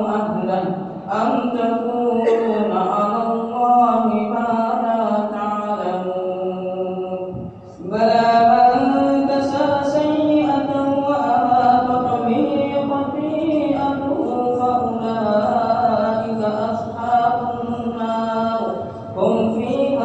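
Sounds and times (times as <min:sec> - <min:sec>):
melodic quran recitation: 0:00.0 - 0:20.0.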